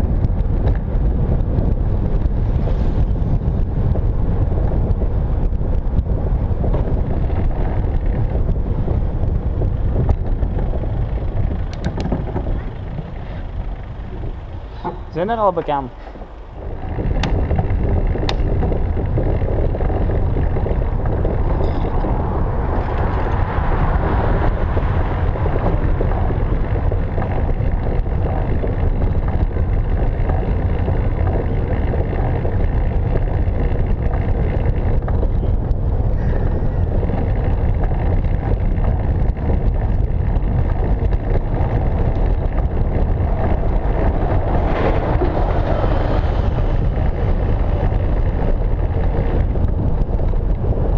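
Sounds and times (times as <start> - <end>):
tyres rumbling: 0.0 - 50.9
wind noise: 0.0 - 50.9.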